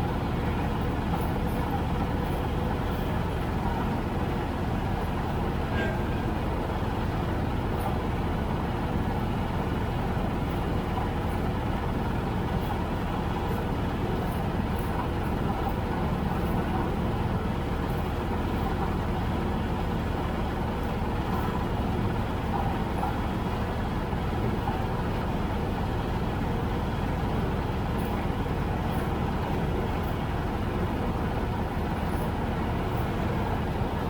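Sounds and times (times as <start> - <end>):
tractor engine rumbling: 0.0 - 34.0.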